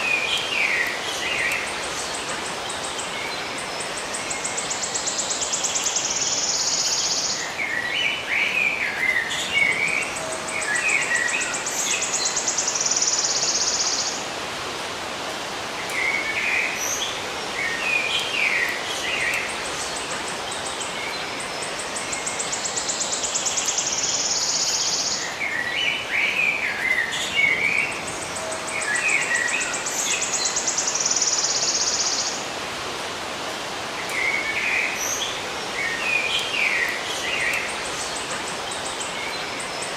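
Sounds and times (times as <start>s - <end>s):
outdoor background hiss: 0.0s - 39.9s
songbirds chirping: 0.0s - 39.9s.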